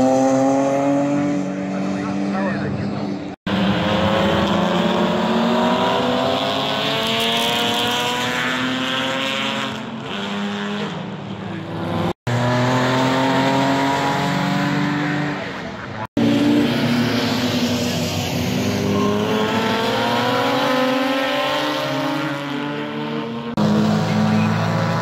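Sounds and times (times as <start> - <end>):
racing car engines passing: 0.0 - 25.0.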